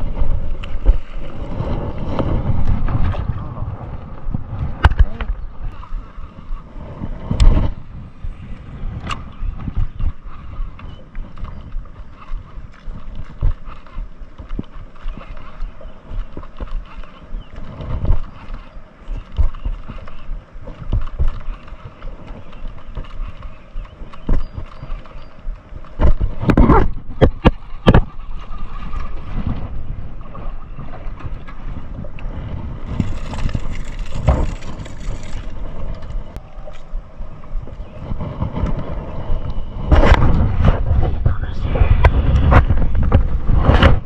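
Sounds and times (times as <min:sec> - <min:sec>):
water lapping at hull: 0:00.0 - 0:39.7
wind on microphone: 0:00.0 - 0:44.0.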